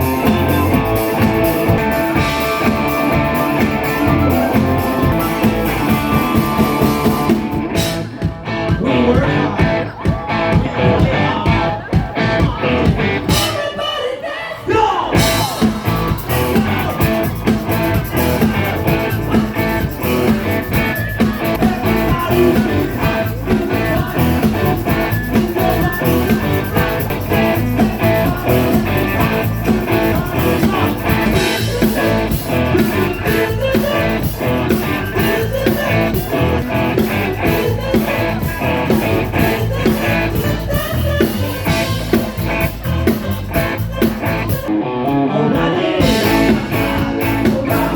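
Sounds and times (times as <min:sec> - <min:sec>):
electric guitar: 0:00.0 - 0:13.6, 0:15.2 - 0:47.9
drums: 0:00.0 - 0:47.9
person singing: 0:00.0 - 0:47.9.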